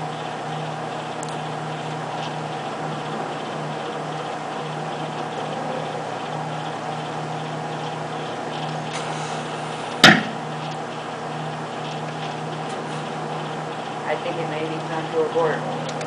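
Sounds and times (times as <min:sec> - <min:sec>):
faint crackles: 0:00.0 - 0:16.0
microwave oven humming: 0:00.0 - 0:16.0.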